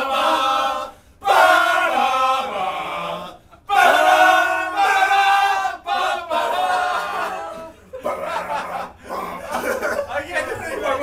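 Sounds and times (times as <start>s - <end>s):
group singing in unison: 0.0s - 9.7s.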